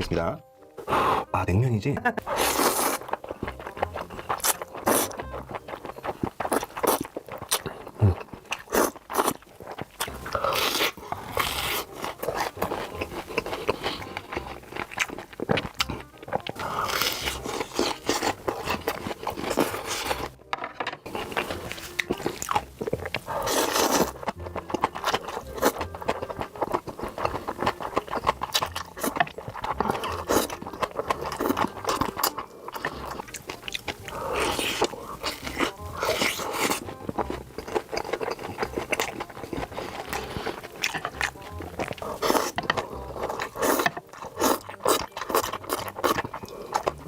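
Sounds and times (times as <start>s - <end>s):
crunchy bites and chewing: 2.3s - 20.4s, 21.1s - 47.0s.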